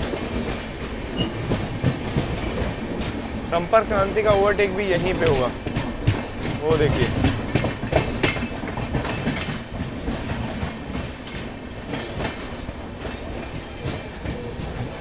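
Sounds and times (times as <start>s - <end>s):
train wheels rumbling on rail: 0.0s - 15.0s
wheels clacking over rail joints: 0.0s - 15.0s.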